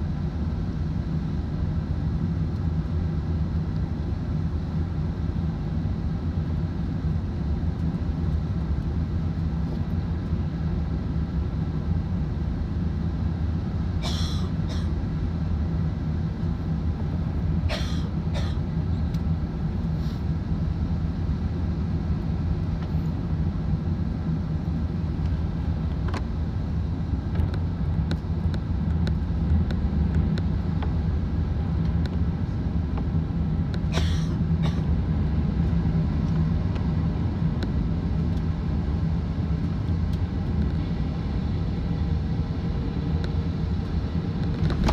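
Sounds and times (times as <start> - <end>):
aircraft engine and airflow rumble: 0.0 - 44.9.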